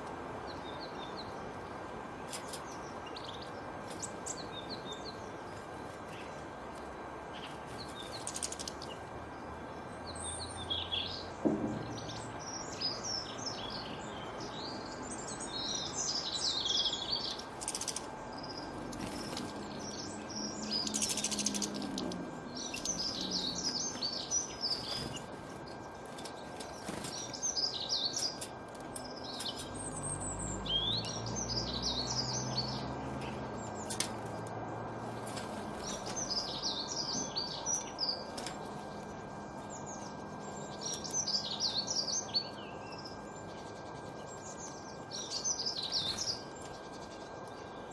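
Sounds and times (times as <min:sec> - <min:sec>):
faint steady hum: 0:00.0 - 0:47.9
songbirds chirping: 0:00.0 - 0:47.9.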